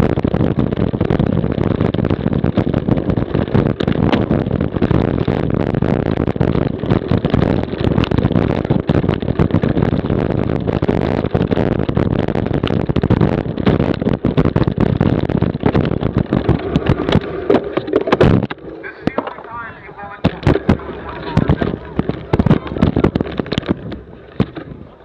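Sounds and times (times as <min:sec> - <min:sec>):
bike clicking and rattling: 0:00.0 - 0:25.0
bike tyres rumbling: 0:00.0 - 0:25.0
wind on microphone: 0:00.0 - 0:25.0.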